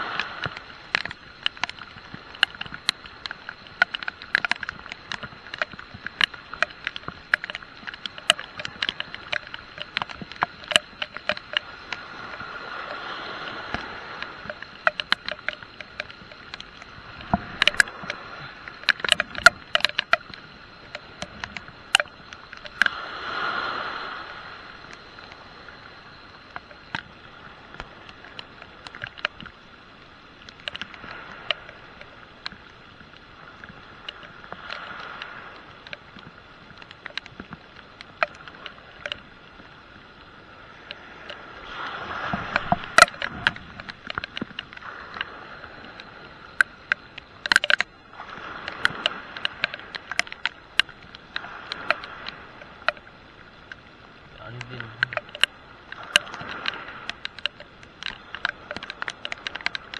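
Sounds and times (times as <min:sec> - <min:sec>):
raindrops tapping on camera: 0:00.0 - 0:23.2, 0:24.0 - 0:59.9
rain hiss: 0:00.0 - 0:59.9.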